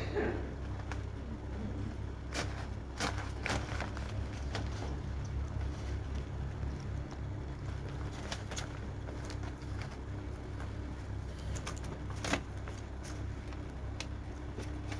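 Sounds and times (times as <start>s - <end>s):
steady low hum: 0.0s - 14.9s
papers and plastic bag crinkling: 0.7s - 14.9s.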